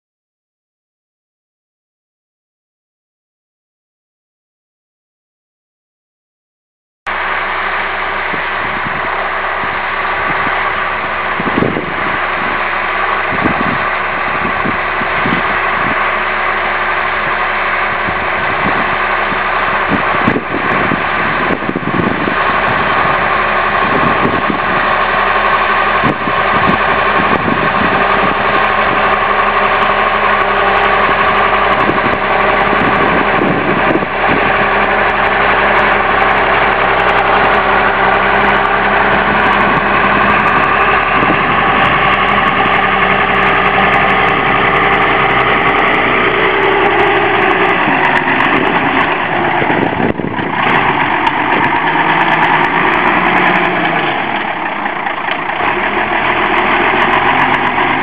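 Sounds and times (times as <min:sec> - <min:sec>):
tractor diesel engine under load: 0:07.1 - 0:58.0.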